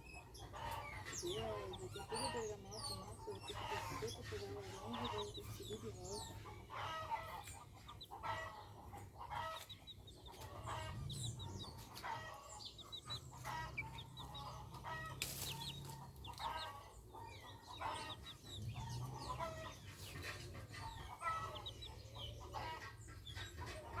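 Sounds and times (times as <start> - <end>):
chickens clucking: 0.0 - 24.0
high chick peeps: 0.0 - 24.0.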